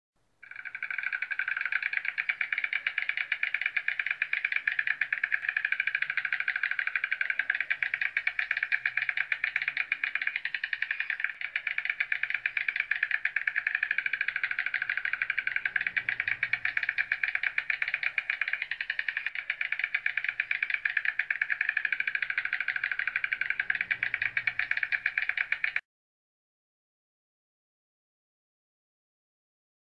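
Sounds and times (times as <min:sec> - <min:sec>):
stork clattering its bill: 0:00.4 - 0:25.8.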